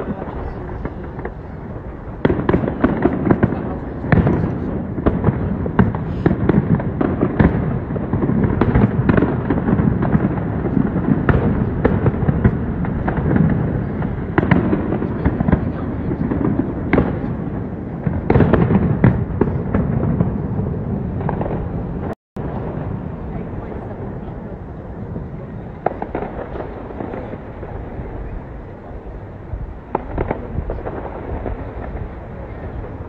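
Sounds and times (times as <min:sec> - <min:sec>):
fireworks rumble and bangs: 0:00.0 - 0:33.0.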